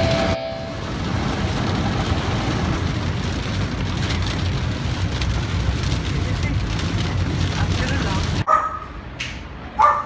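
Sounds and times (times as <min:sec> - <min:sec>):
car rumbling on road: 0:00.0 - 0:08.5
rain on car windows: 0:00.1 - 0:08.5.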